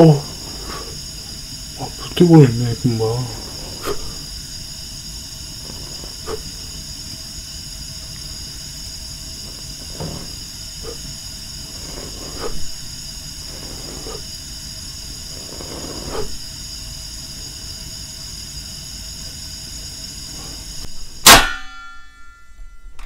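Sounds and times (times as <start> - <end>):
gas burner flame hissing: 0.0 - 21.3.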